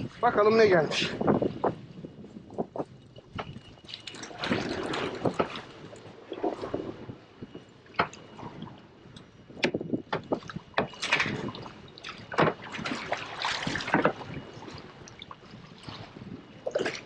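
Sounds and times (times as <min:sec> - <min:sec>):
water sloshing against boat hull: 0:01.2 - 0:17.0.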